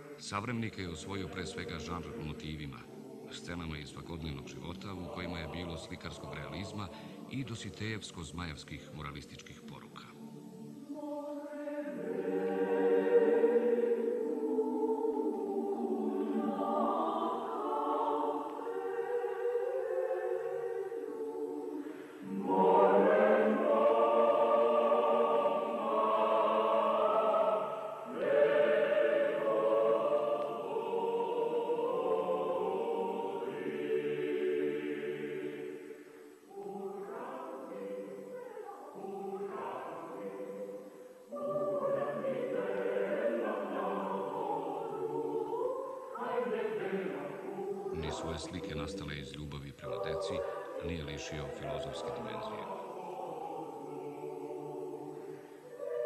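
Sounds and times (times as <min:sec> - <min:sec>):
choir singing held chords: 0:00.0 - 0:56.0.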